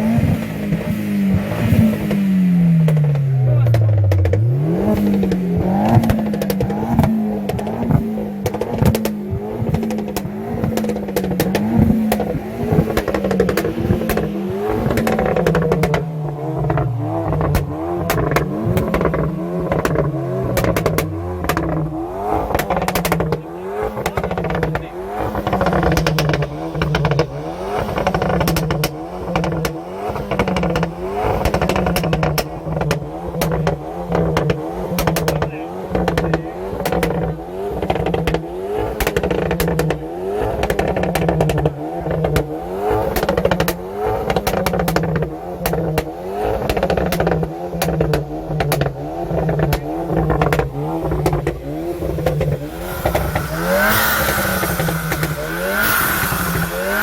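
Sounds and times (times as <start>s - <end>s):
car engine revving: 0.0s - 57.0s
exhaust pops and crackles: 0.0s - 57.0s.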